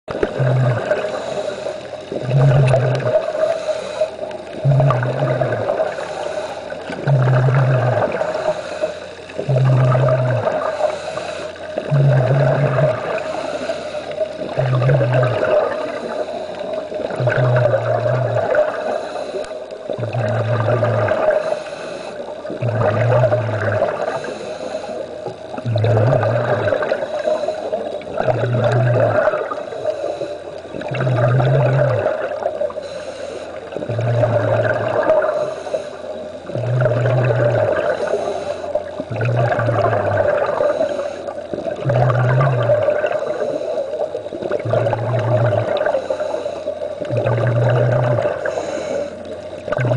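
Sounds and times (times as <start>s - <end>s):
diver breathing through regulator: 0.2s - 49.9s.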